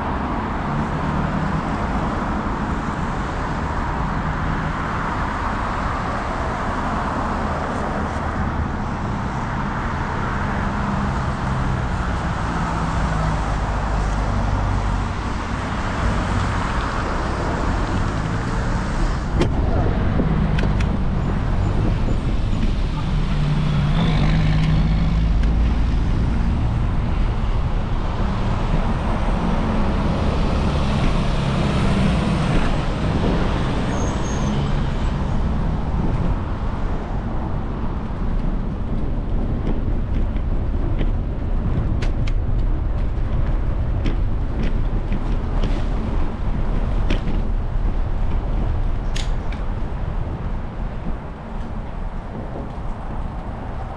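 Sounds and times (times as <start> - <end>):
road and wind rumble: 0.0 - 53.9
motor traffic passing: 6.8 - 53.9.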